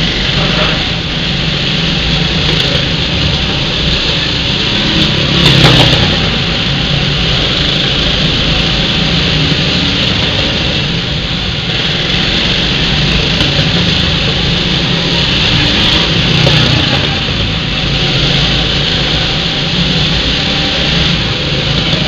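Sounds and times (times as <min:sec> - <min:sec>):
go-kart engines droning: 0:00.0 - 0:22.0.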